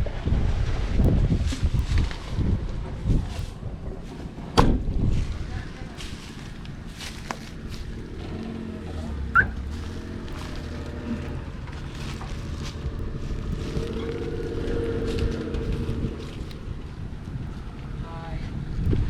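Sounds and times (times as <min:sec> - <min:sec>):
vehicle engine running: 0:02.7 - 0:19.0.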